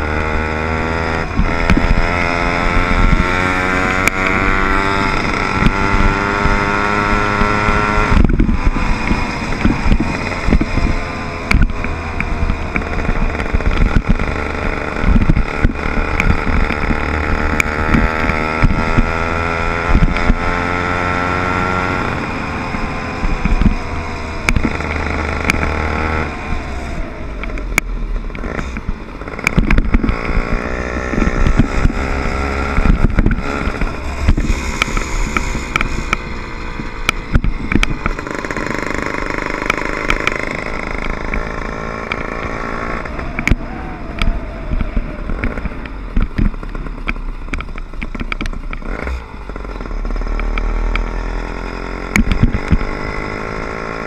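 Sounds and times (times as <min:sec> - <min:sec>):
wind buffeting microphone: 0:00.0 - 0:49.9
small motorbike engine buzzing: 0:00.0 - 0:54.0.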